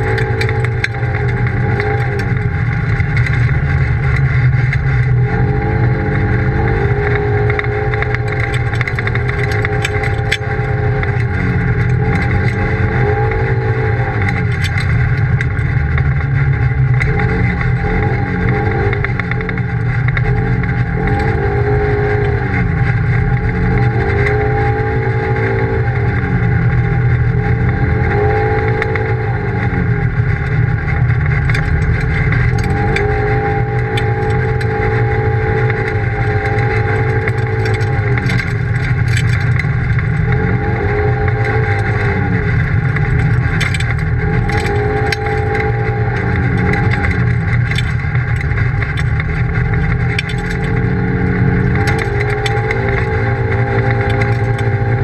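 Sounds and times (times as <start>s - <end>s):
off-road vehicle engine revving: 0.0s - 55.0s
tyres rumbling on gravel: 0.0s - 55.0s.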